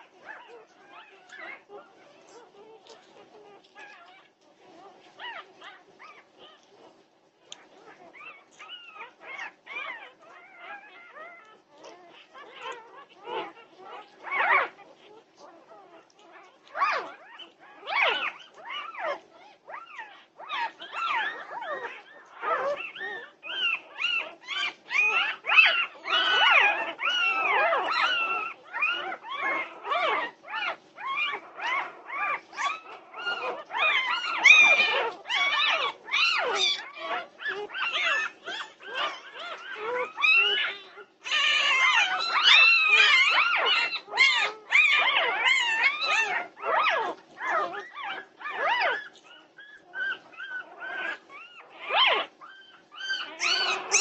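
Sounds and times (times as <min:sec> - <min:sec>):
puppies squealing and crying: 0:00.0 - 0:54.0.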